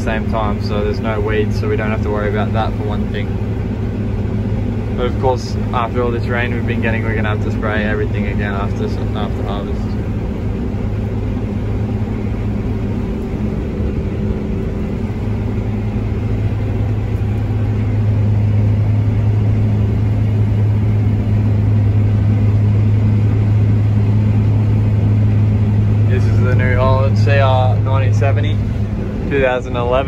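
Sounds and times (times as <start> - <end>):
combine harvester drone: 0.0 - 30.0.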